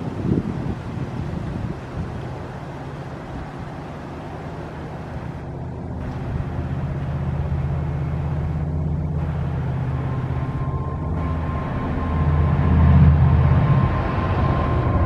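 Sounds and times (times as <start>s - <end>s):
diesel locomotive engine humming: 0.0s - 15.0s.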